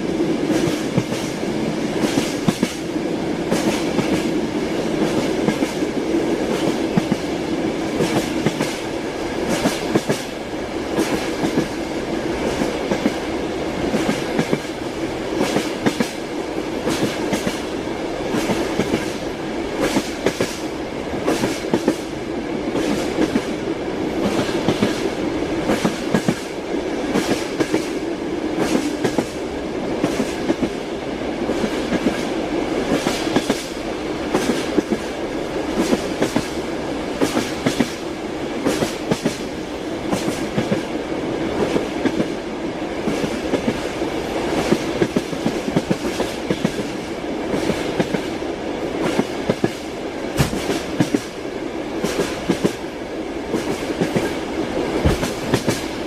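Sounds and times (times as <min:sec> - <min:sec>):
railway carriage rumble: 0:00.0 - 0:56.0
train wheels clacking on rails: 0:00.0 - 0:56.0.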